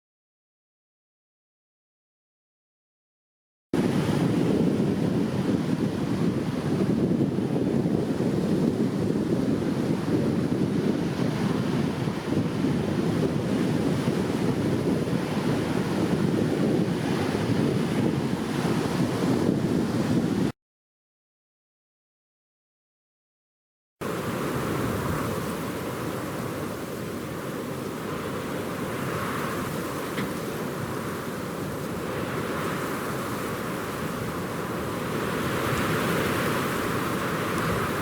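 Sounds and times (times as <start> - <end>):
wind blowing: 3.8 - 20.5, 24.0 - 38.0.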